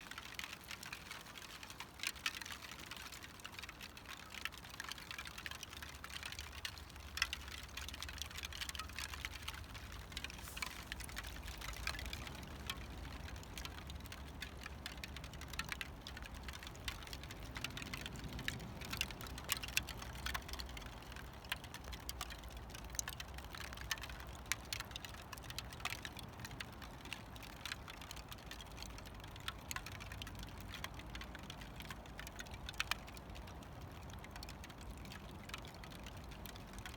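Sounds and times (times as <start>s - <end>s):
raindrops falling on ice: 0.0s - 36.9s.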